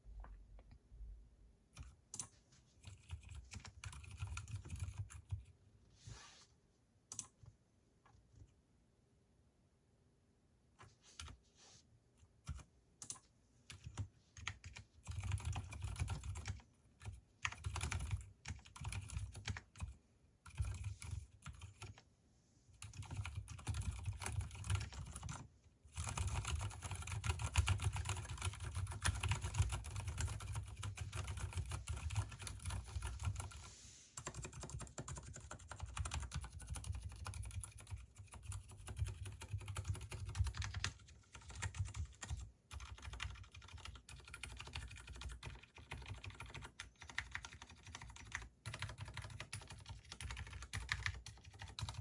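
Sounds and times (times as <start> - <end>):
typing on mechanical keyboard: 1.7 - 5.5, 7.1 - 7.4, 12.4 - 22.0, 22.8 - 33.6, 34.2 - 52.0.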